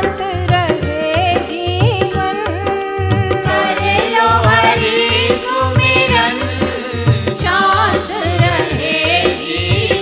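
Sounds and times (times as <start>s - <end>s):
hand drum beat: 0.0s - 10.0s
light percussion: 0.0s - 10.0s
person singing devotional song: 0.0s - 10.0s.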